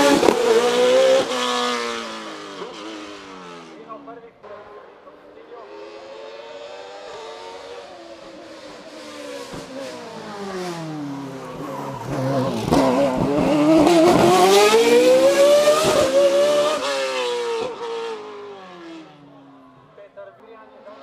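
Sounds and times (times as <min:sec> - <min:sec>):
racing car engine: 0:00.0 - 0:21.0.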